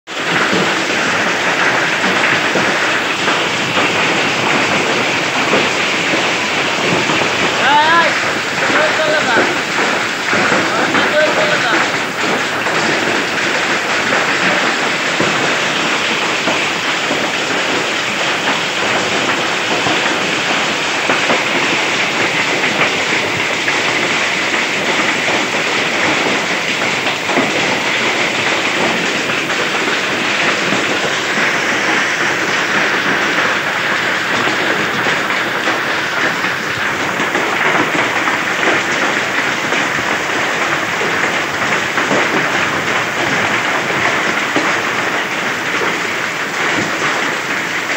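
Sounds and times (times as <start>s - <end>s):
heavy rain and hail: 0.1s - 47.9s.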